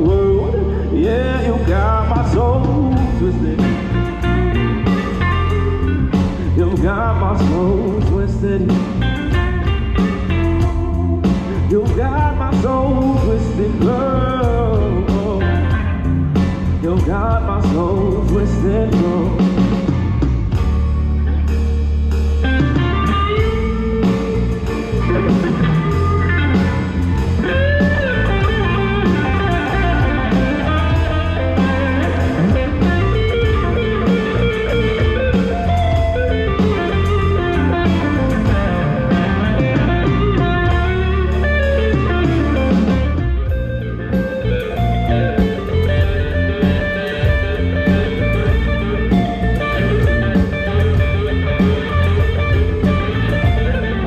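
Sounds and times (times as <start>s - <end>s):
bass: 0.0s - 54.0s
drum kit beat: 0.0s - 54.0s
electric guitar lead: 0.0s - 54.0s.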